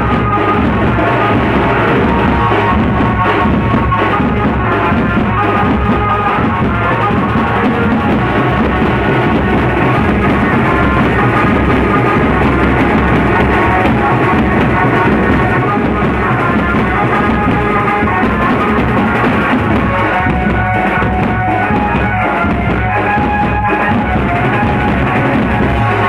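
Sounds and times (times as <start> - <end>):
held melody line: 0.0 - 26.0
large drums beating: 0.0 - 26.0.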